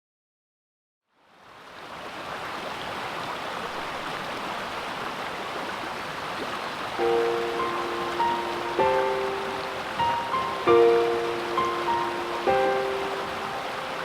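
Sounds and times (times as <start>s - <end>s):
waterfall rushing: 1.8s - 14.0s.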